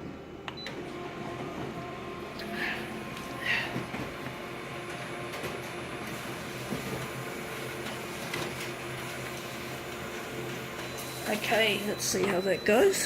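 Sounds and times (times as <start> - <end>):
copier printing hum: 0.0 - 13.0.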